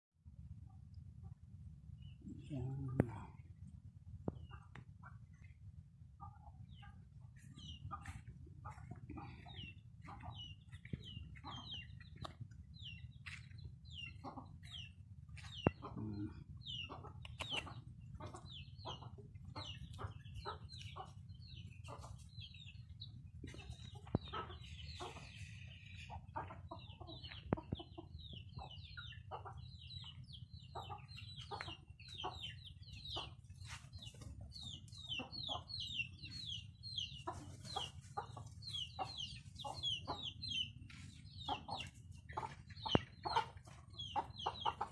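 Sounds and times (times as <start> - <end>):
chickens clucking: 0.5 - 44.9.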